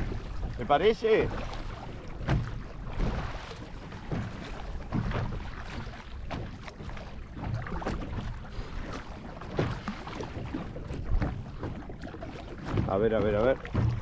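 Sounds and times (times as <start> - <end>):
kayak paddle splashing: 0.0 - 14.0.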